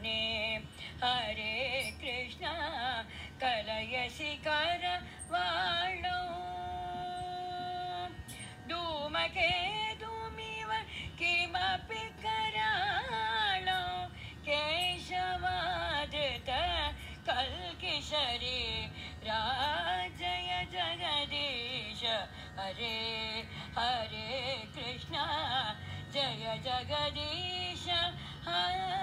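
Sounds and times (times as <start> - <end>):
woman singing: 0.0 - 29.0.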